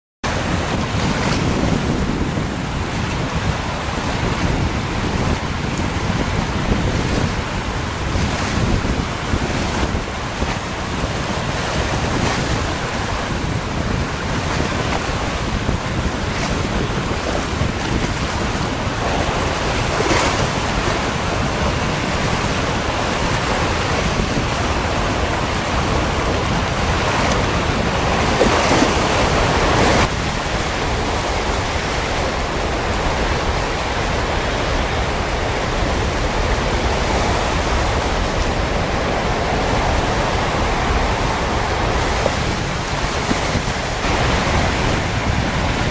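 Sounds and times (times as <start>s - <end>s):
river rushing: 0.2s - 45.9s
wind buffeting microphone: 0.2s - 45.9s.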